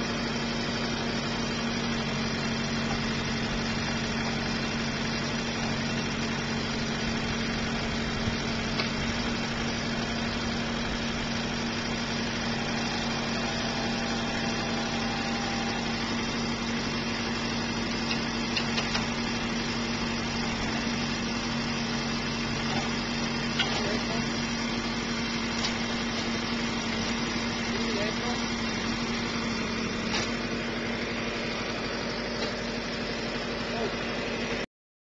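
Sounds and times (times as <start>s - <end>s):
vehicle engine running steadily: 0.0s - 34.7s.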